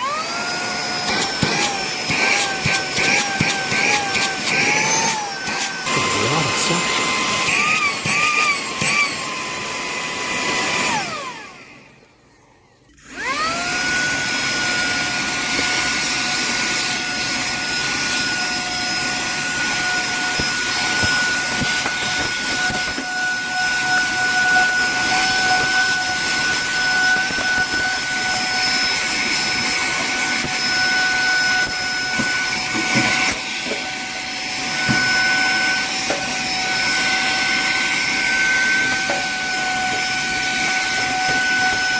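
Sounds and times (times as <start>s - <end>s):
handheld vacuum cleaner whine: 0.0s - 41.9s.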